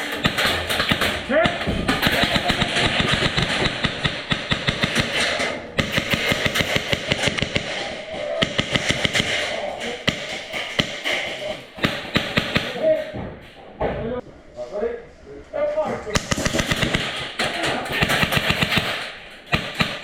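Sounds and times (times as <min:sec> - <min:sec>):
airsoft guns firing rapidly: 0:00.0 - 0:13.1, 0:16.2 - 0:20.0.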